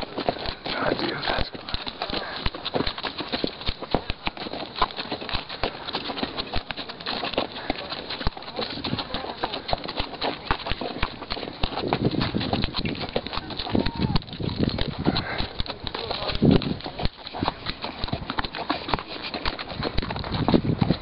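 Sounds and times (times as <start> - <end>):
hooves clip-clopping on stony ground: 0.0 - 21.0.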